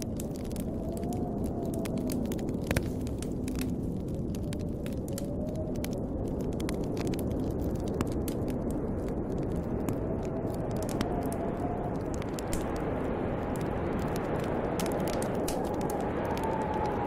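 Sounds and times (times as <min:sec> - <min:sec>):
snowstorm wind rushing: 0:00.0 - 0:17.0
wood fire crackling: 0:00.0 - 0:17.0.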